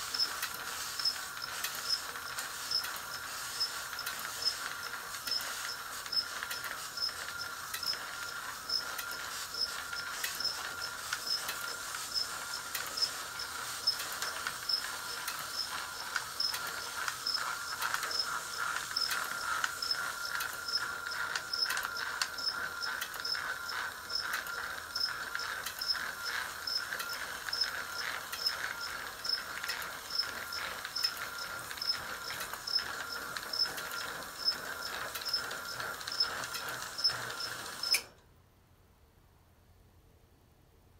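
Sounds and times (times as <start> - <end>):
motor winding sign film: 0.0 - 38.1.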